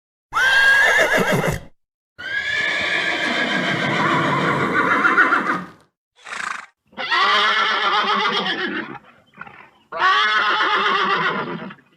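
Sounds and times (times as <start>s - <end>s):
horse neighing: 0.3s - 11.8s.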